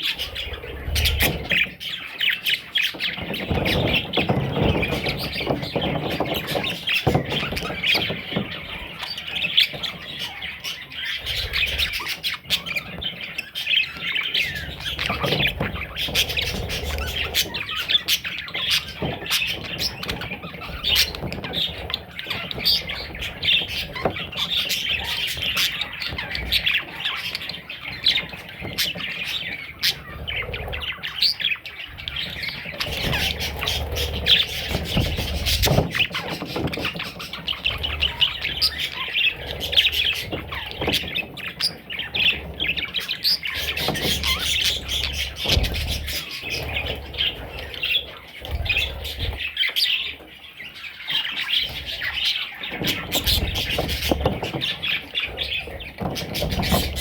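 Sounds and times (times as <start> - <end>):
budgerigars chattering and squawking: 0.0 - 57.0.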